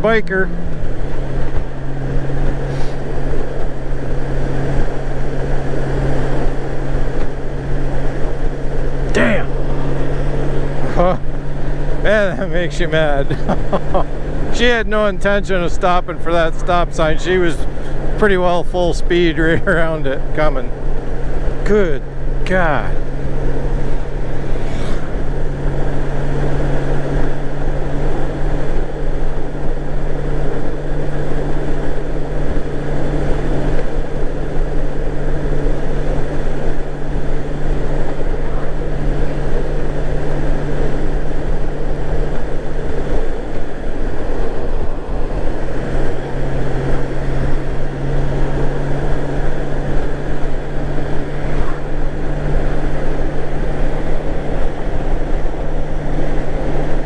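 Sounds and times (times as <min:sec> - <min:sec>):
motorcycle engine cruising: 0:00.0 - 0:57.0
rush of riding noise: 0:00.0 - 0:57.0.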